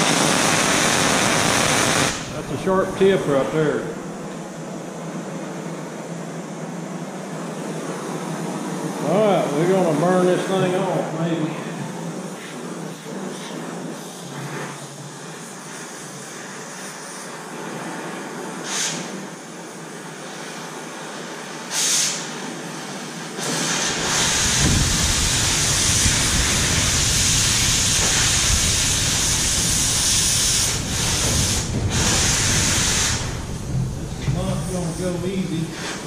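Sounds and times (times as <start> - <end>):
cutting torch hissing: 0.0 - 36.0.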